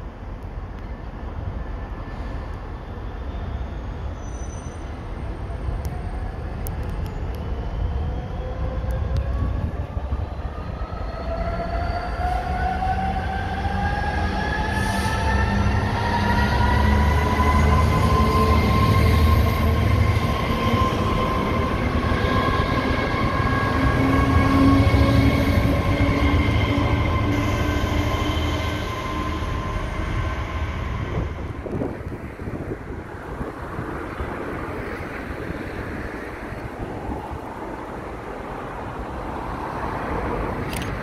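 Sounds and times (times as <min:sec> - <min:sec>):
freight train rumbling over rails: 0:00.0 - 0:41.0.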